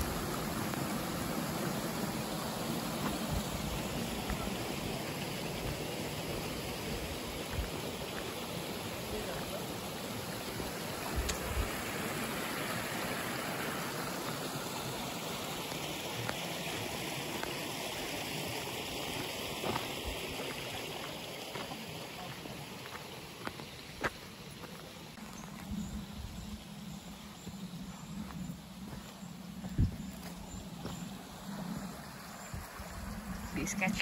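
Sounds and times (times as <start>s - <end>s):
stream flowing over stones: 0.0s - 25.5s, 28.0s - 34.0s.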